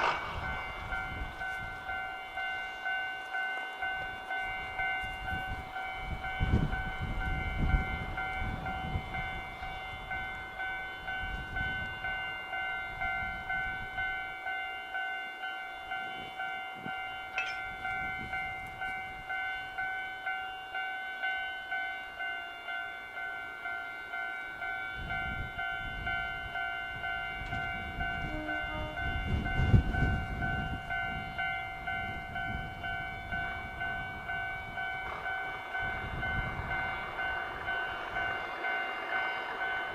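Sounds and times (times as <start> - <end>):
diesel locomotive engine rumbling: 0.0 - 39.9
ringing alarm: 0.0 - 39.9.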